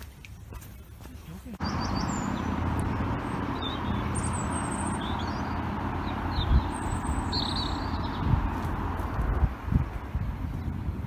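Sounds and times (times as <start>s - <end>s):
small birds chirping: 0.0s - 9.2s
wind rumble on microphone: 1.6s - 11.0s.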